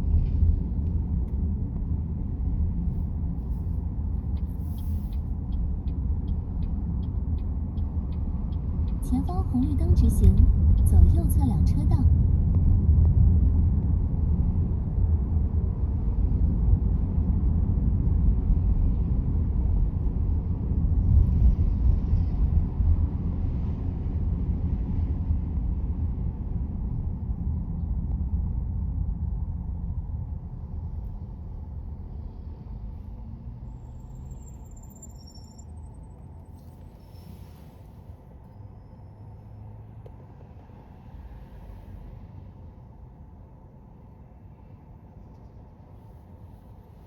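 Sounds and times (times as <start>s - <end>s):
road and tyre rumble in car: 0.0s - 47.0s.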